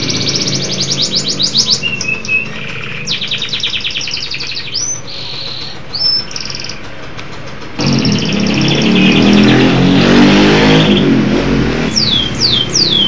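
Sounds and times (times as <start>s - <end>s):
canary singing trills and whistles: 0.0s - 6.8s, 7.8s - 11.2s, 11.9s - 13.0s.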